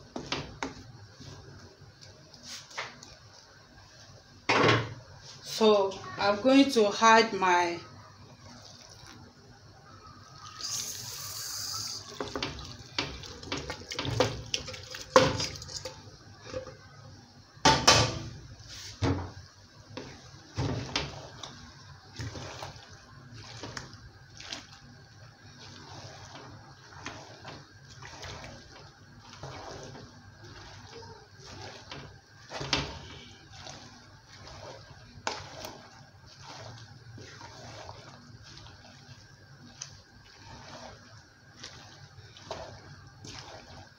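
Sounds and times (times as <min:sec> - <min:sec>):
wooden spoon stirring soup: 0:00.0 - 0:07.4, 0:08.0 - 0:17.5, 0:18.3 - 0:43.9.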